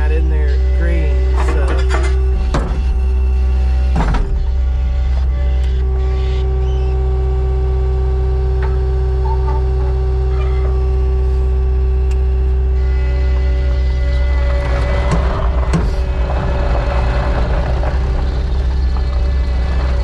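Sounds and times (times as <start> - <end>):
loader engine running: 0.0 - 20.0.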